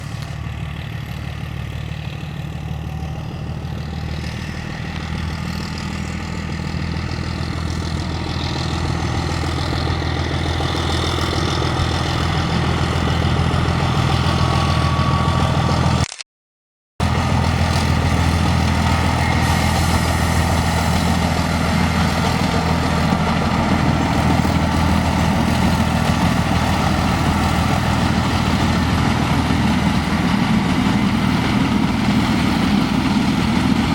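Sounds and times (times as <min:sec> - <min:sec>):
diesel locomotive engine running: 0:00.0 - 0:16.1, 0:17.0 - 0:33.9.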